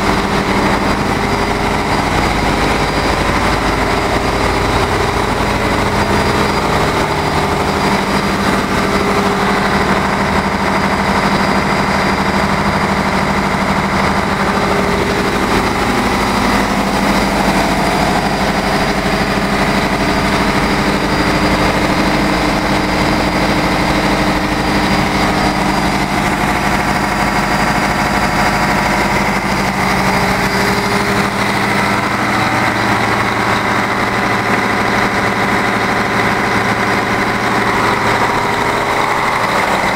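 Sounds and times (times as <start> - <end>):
diesel machinery roar: 0.0 - 39.9
steady humming tones: 0.0 - 39.9.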